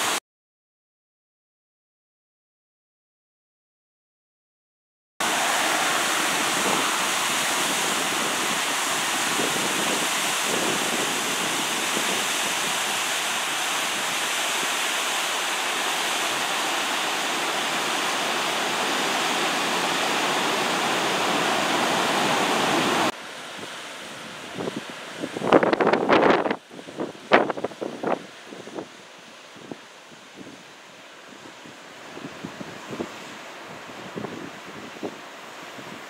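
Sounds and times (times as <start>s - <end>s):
water rushing over spillway: 5.2s - 36.0s.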